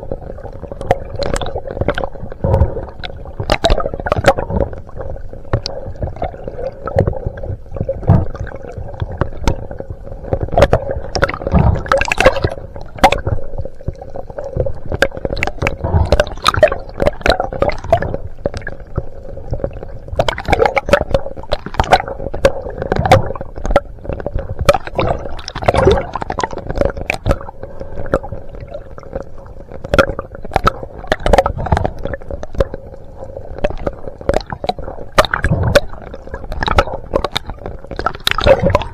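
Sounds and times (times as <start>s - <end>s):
faint steady hum: 0.0s - 38.9s
underwater knocks and clicks: 0.0s - 38.9s
underwater sloshing and gurgling: 0.0s - 38.9s.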